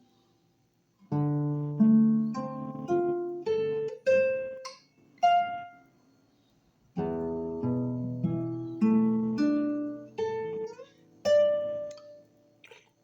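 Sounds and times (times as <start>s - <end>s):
classical guitar playing: 1.0s - 5.9s, 6.9s - 12.8s.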